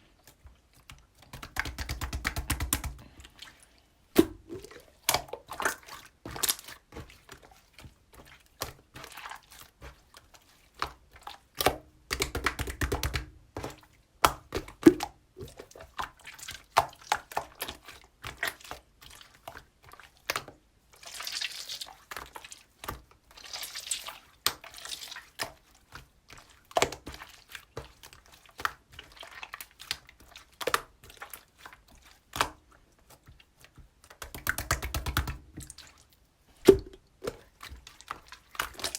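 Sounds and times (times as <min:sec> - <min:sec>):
slime squelching by hand: 0:00.1 - 0:38.9.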